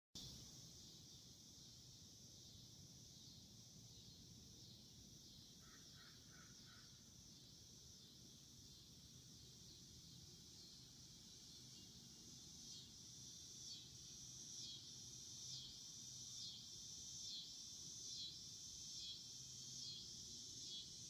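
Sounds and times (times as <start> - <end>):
high-pitched insect chorus: 0.2 - 21.0.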